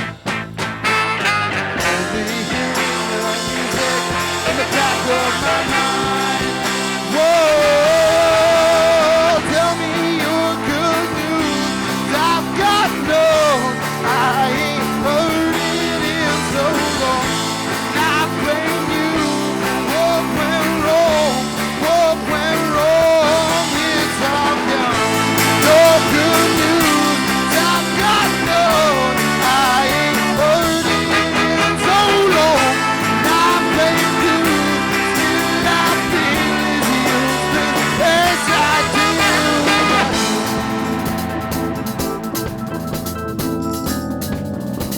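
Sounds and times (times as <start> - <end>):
live rock band playing: 0.0 - 44.9
wavering lead melody: 1.1 - 44.9.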